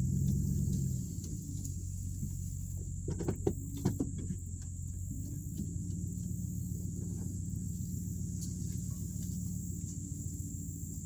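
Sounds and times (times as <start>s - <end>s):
pickup engine running: 0.0s - 11.0s.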